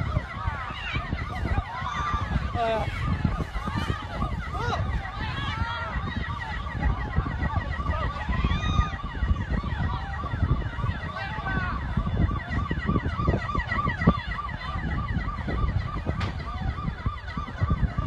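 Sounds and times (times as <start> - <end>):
siren yelping: 0.0 - 18.0.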